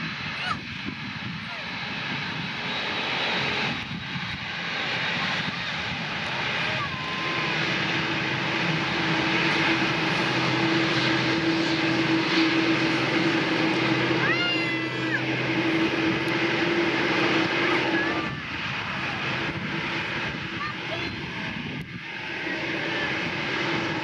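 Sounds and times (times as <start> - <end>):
aircraft engines roaring: 0.0 - 24.0.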